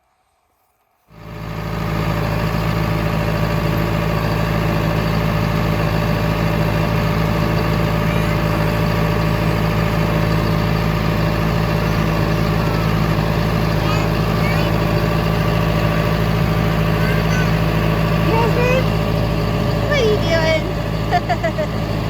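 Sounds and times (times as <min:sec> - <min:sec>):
vehicle engine running: 0:01.1 - 0:22.0.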